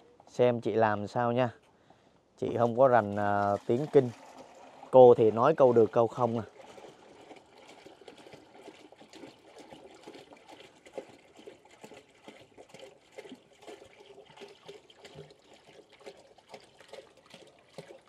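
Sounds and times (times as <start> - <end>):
water pouring into a bucket: 2.4 - 18.0.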